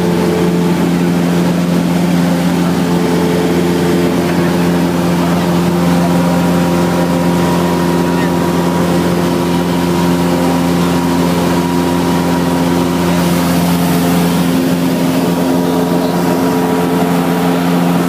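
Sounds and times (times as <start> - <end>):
airplane engine drone in cockpit: 0.0 - 18.0.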